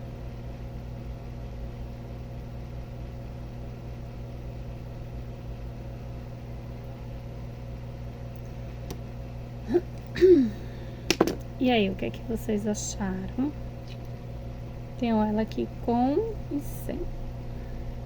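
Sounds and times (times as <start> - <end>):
steady low electrical hum: 0.0 - 18.0.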